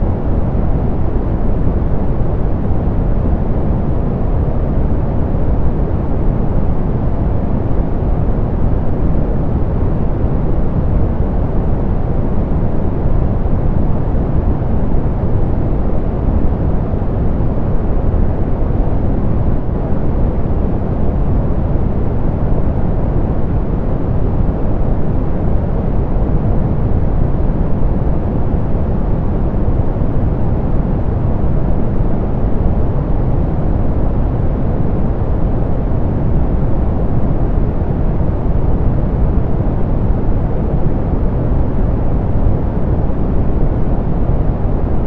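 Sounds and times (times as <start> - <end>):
soft pink noise: 0.0 - 45.0.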